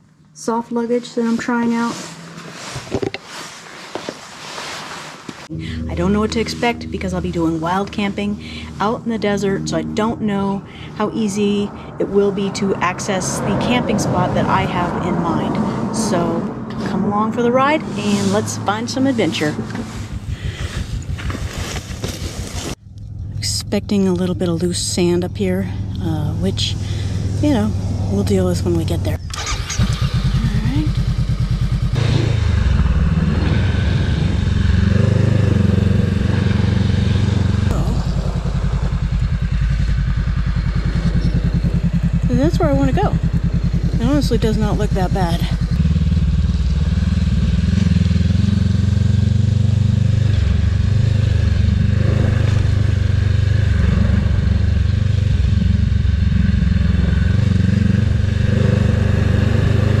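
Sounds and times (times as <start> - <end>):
motorcycle engine: 0.0 - 4.1, 5.4 - 60.0.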